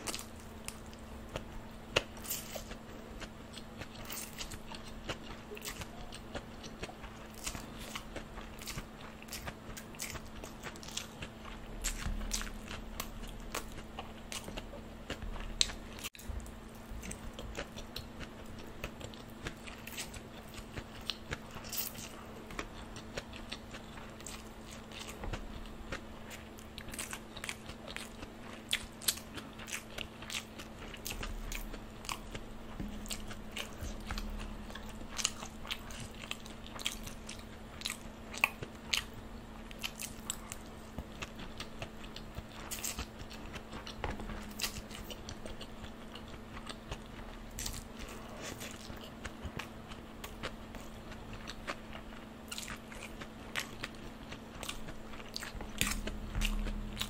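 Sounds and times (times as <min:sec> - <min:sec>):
chewing and slurping noodles: 0:00.0 - 0:57.0.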